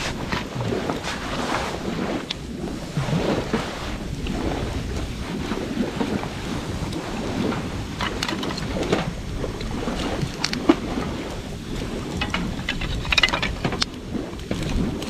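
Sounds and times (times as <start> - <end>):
campfire flames rushing: 0.0 - 15.0
fire crackles and pops: 0.0 - 15.0.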